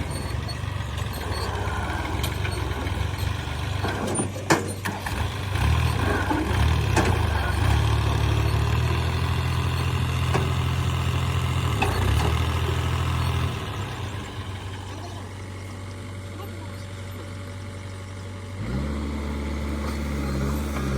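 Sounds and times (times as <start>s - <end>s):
heavy diesel engine running: 0.0s - 20.9s.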